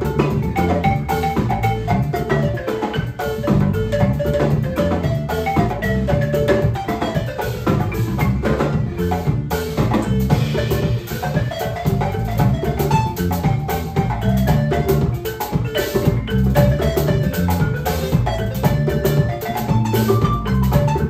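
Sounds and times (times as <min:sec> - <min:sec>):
bass guitar: 0:00.0 - 0:21.0
drum kit and djembe: 0:00.0 - 0:21.0
electric guitar: 0:00.0 - 0:21.0
xylophone melody: 0:00.0 - 0:21.0.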